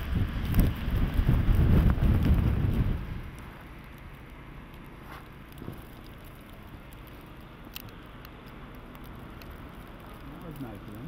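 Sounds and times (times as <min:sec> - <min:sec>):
faint low engine hum: 0:00.0 - 0:11.0.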